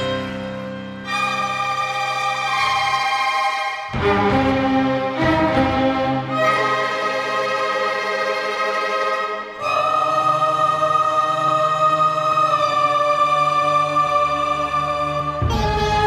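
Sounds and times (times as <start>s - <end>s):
orchestral music held notes: 0.0s - 16.0s.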